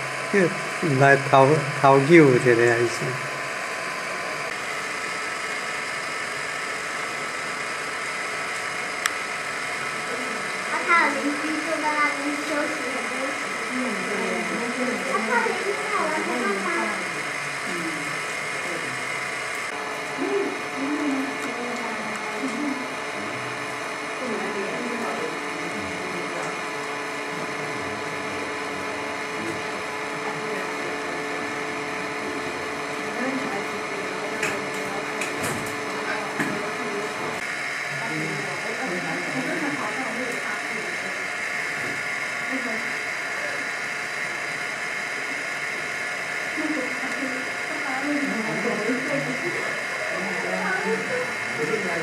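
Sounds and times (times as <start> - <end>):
machine hiss and hum: 0.0 - 52.0
faint murmuring voices: 9.7 - 52.0.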